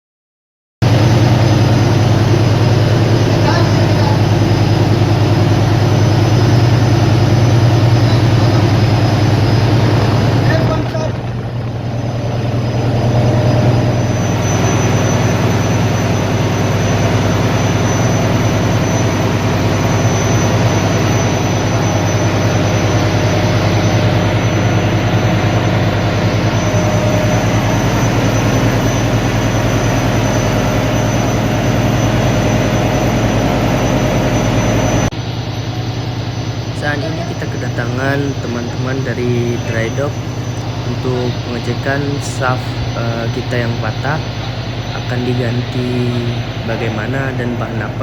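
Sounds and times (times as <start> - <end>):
ship engine low drone: 0.8 - 48.0.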